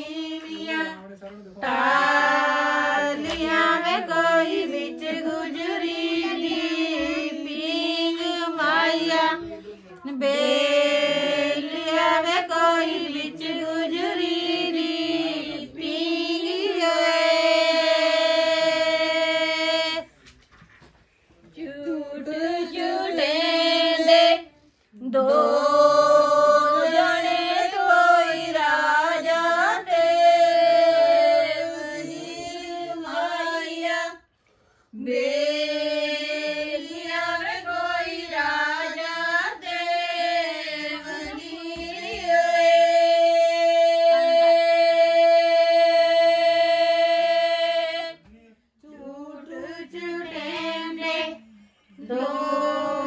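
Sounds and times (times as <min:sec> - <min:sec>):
women singing folk song: 0:00.0 - 0:20.2, 0:21.4 - 0:53.0.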